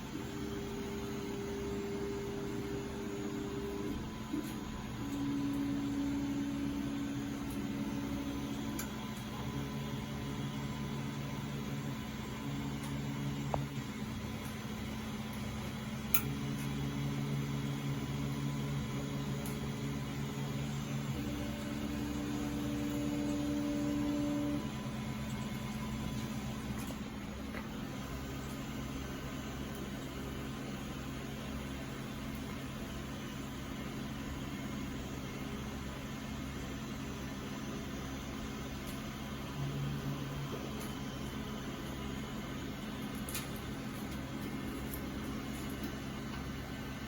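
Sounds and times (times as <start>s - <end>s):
cooling fans humming: 0.0s - 47.0s.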